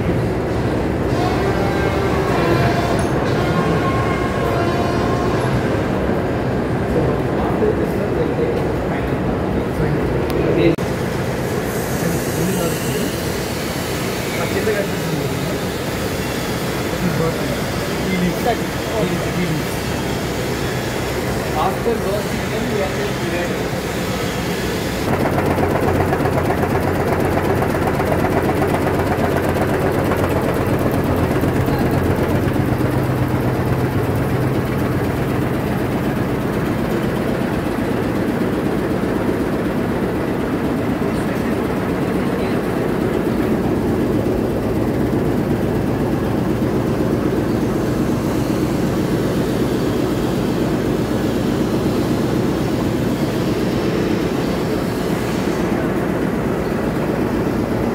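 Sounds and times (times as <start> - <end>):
machinery droning: 0.0 - 57.9.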